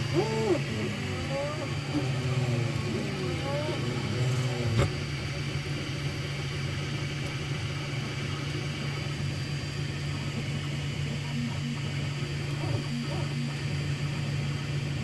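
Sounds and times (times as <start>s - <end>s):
printer fans and stepper motors hum: 0.0s - 15.0s.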